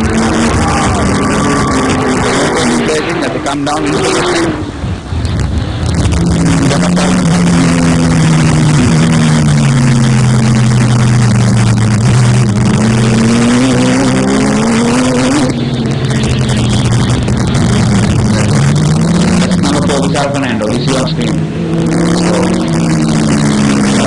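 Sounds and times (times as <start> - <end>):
racing motorcycle engines revving: 0.0 - 24.0.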